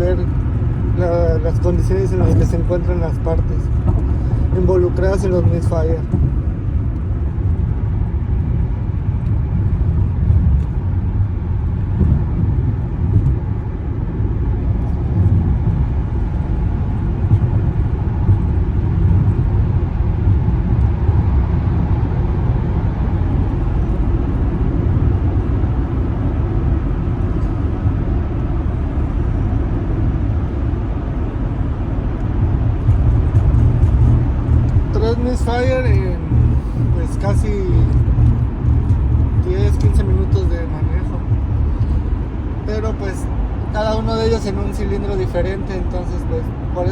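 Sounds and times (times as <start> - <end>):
car engine rumbling: 0.0 - 46.9
road noise: 0.0 - 46.9.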